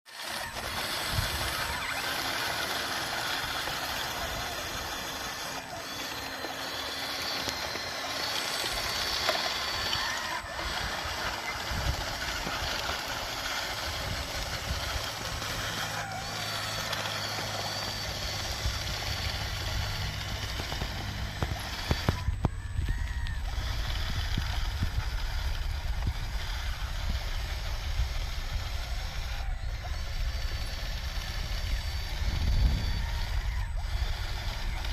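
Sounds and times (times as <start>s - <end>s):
small electric motors whining: 0.1s - 34.9s
steady noisy background: 0.1s - 34.9s
low engine-like hum: 0.2s - 34.9s.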